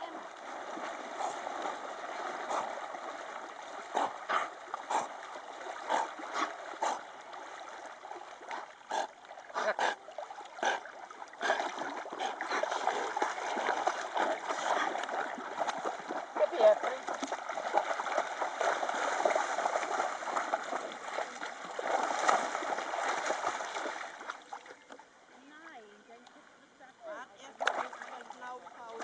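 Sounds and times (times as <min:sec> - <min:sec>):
dogs splashing through water: 0:00.0 - 0:24.9, 0:27.6 - 0:29.0
wash of moving water: 0:00.0 - 0:25.4, 0:27.1 - 0:29.0.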